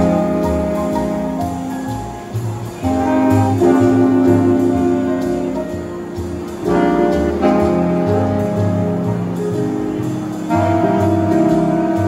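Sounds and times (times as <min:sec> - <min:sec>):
horn phrase: 0:00.0 - 0:12.0
jazz ensemble playing blues: 0:00.0 - 0:12.0
saxophone and horn chords: 0:00.0 - 0:12.0.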